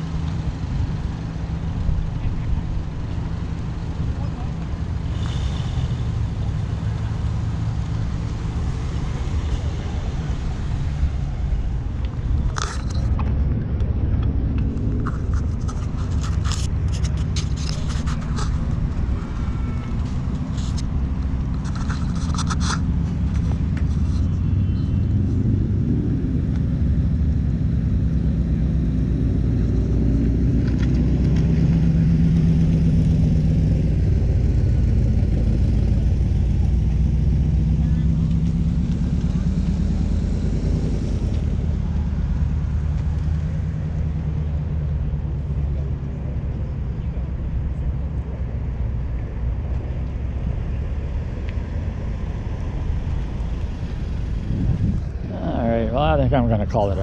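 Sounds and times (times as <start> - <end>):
car engines rumbling: 0.0 - 57.0.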